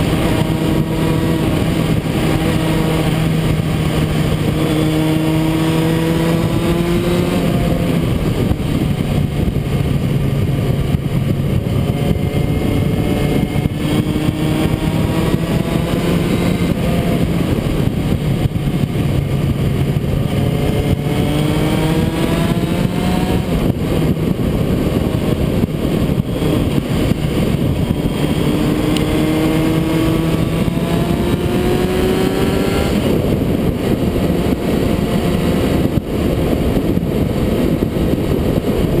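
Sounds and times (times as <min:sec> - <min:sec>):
motorcycle engine revving: 0:00.0 - 0:39.0
wind and road noise: 0:00.0 - 0:39.0.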